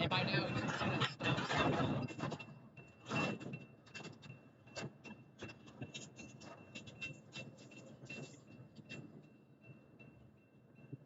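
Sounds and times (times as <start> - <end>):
train clicks and knocks: 0.0 - 11.0.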